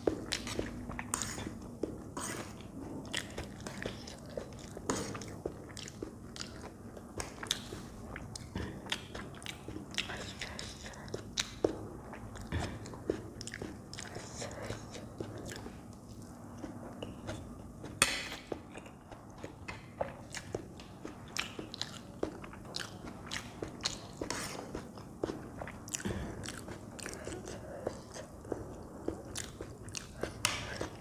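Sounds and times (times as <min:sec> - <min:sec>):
wet chewing and mouth smacks: 0:00.2 - 0:31.0.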